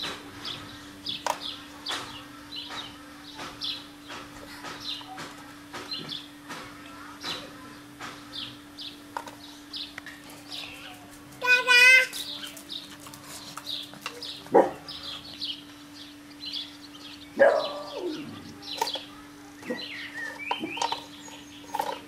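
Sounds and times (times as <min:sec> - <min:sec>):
small birds chirping: 0:00.3 - 0:22.0.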